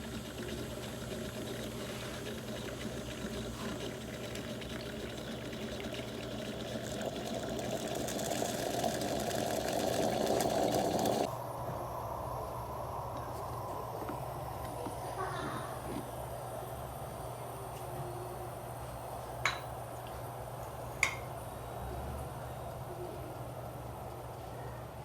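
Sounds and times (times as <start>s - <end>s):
espresso machine running: 0.0s - 25.0s.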